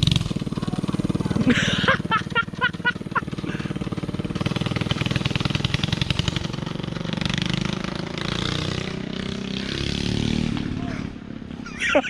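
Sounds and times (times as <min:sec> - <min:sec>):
mini-bike engine running: 0:00.0 - 0:12.0.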